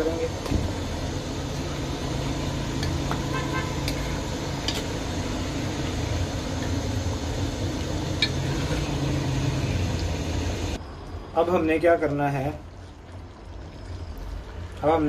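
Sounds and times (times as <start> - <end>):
traffic-like background noise: 0.0 - 15.0.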